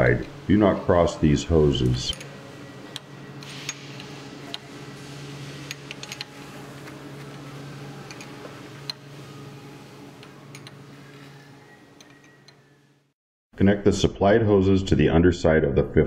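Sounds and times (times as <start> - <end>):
low hum: 0.0 - 14.1.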